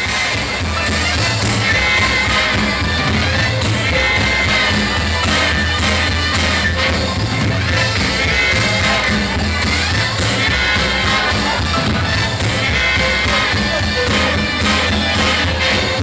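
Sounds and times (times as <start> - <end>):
steady bass line: 0.0 - 16.0
swing band playing: 0.0 - 16.0.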